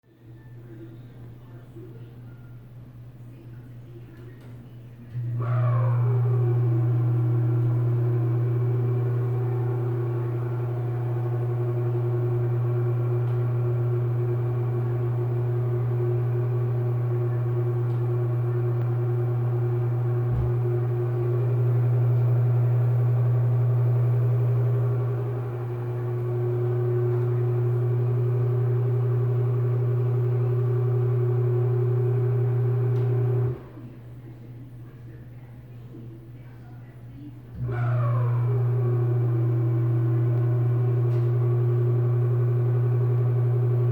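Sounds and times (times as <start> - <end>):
low motor hum: 5.0 - 34.4, 37.3 - 43.9.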